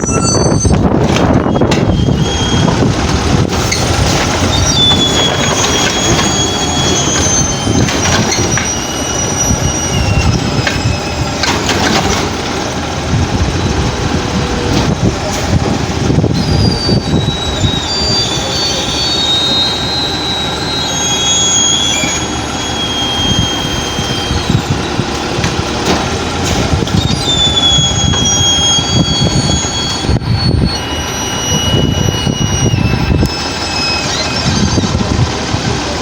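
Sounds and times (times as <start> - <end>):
garbage truck engine and machinery: 0.0 - 36.0
high-pitched squeals: 0.0 - 36.0.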